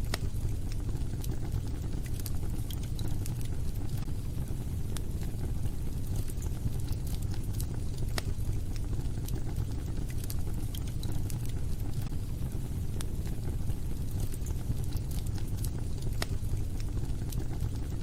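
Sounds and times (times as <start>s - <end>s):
fire crackles and pops: 0.0s - 18.0s
fire flames rumbling: 0.0s - 18.0s.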